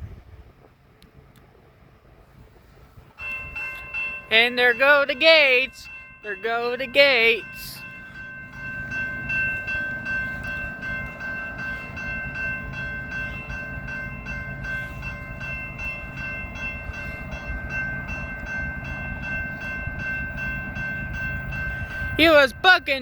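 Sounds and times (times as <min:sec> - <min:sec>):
freight train rumbling past: 0:00.0 - 0:23.0
crossing warning bell ringing: 0:03.1 - 0:23.0.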